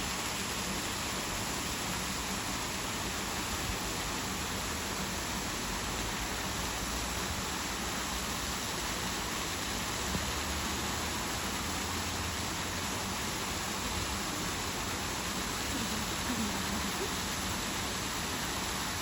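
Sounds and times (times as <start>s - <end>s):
waterfall rushing into pond: 0.0s - 19.0s.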